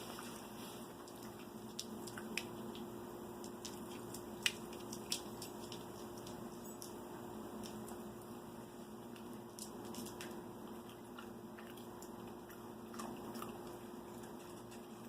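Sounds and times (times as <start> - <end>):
crunchy chewing: 0.0 - 15.0
steady low hum: 0.0 - 15.0.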